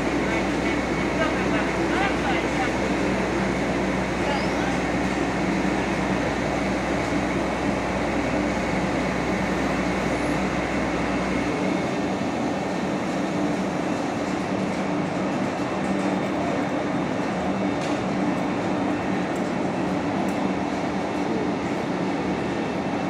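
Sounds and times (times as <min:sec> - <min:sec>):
fire truck engine running: 0:00.0 - 0:22.9.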